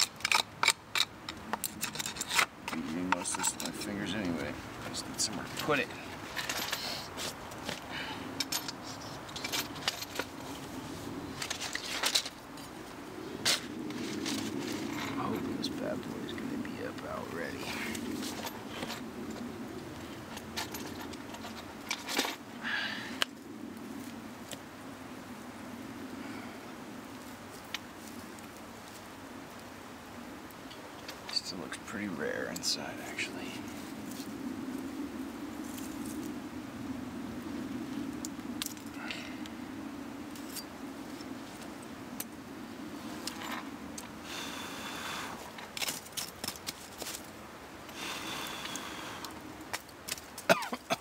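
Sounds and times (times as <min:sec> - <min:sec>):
low background rush: 0:00.0 - 0:51.0
steady low hum: 0:00.8 - 0:51.0.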